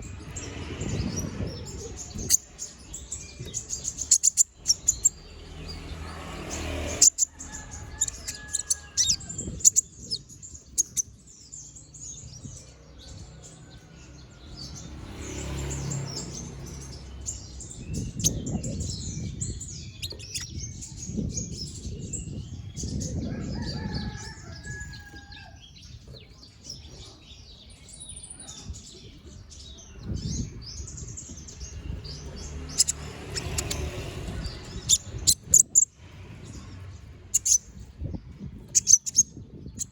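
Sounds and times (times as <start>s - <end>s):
sunbird chattering twitter: 0.0s - 12.6s, 15.1s - 23.2s, 26.0s - 36.0s, 36.6s - 38.0s, 38.6s - 39.9s.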